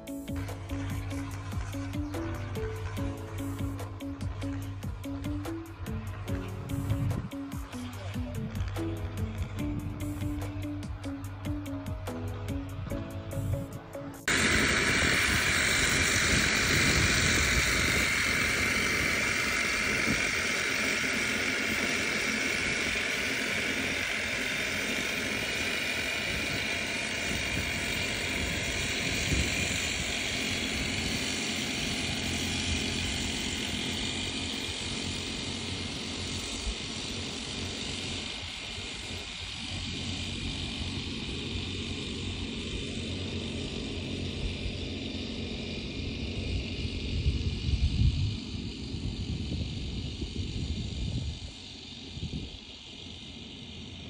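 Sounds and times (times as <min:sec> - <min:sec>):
small sprayer engines droning: 0:00.0 - 0:54.0.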